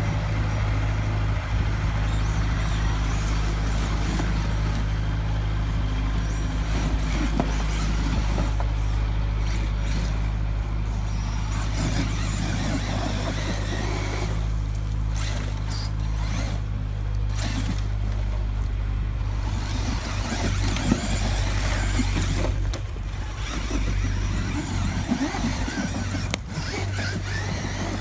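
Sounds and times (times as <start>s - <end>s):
diesel engine drone: 0.0s - 28.0s
toy truck tyres scrabbling in dirt: 1.9s - 28.0s.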